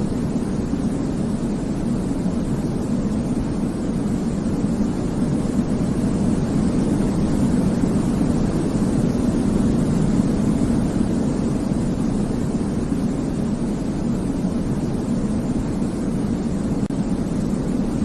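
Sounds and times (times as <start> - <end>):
low white noise: 0.0 - 18.0.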